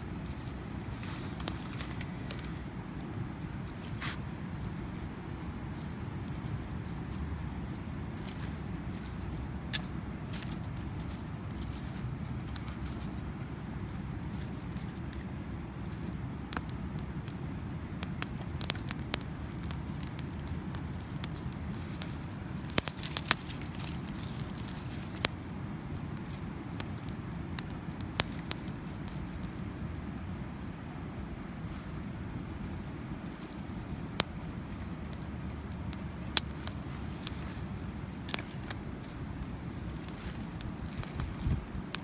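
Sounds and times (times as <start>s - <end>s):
low rumbling noise: 0.0s - 42.0s
sharp snaps and crackles: 0.0s - 42.0s.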